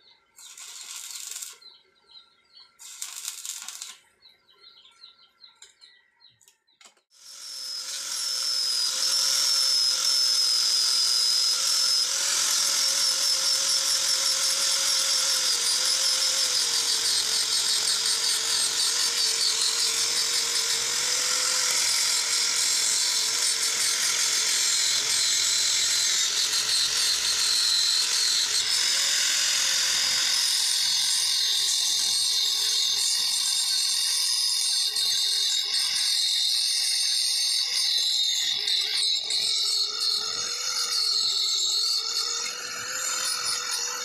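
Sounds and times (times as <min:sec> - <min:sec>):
angle grinder grinding steel pipe: 0:00.0 - 0:05.9, 0:07.1 - 0:44.0.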